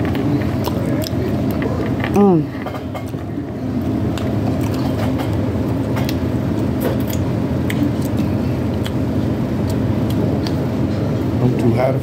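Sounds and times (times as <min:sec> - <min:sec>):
restaurant room hum: 0:00.0 - 0:12.0.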